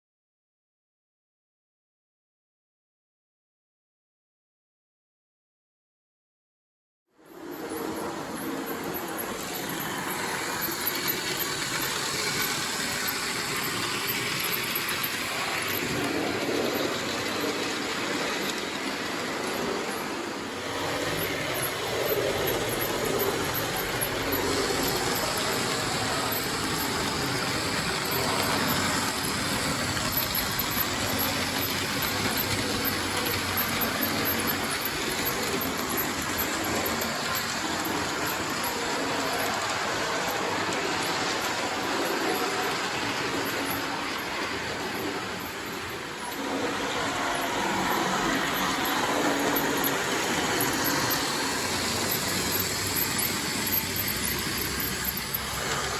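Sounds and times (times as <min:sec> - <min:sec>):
model train running on track: 0:07.2 - 0:55.9.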